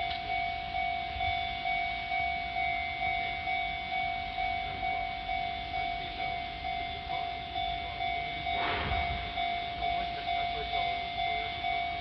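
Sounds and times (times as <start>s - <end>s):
level-crossing warning bell: 0.0s - 12.0s.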